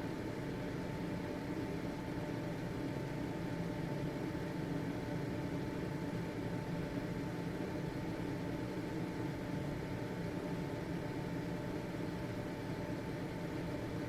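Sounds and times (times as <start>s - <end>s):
exhaust fan whirring: 0.0s - 14.0s
faint steady hum: 0.0s - 14.0s.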